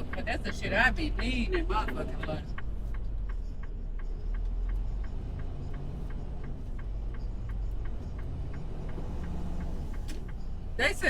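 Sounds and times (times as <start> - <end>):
truck engine rumble: 0.0 - 11.0
turn signal clicking: 0.0 - 11.0.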